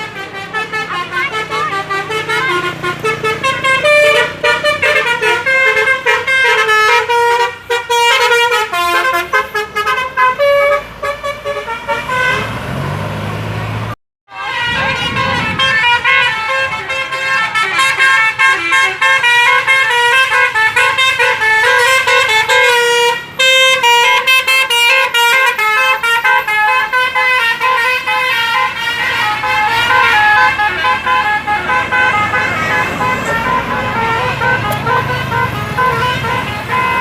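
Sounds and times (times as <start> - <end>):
multi-tone bus air horn tune: 0.0 - 12.6, 14.3 - 37.0.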